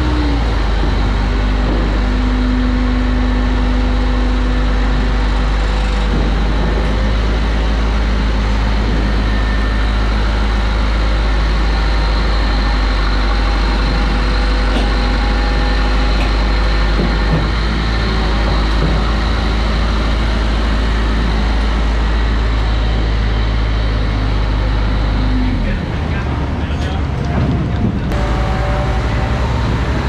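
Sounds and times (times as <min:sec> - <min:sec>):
heavy engines droning: 0:00.0 - 0:30.0.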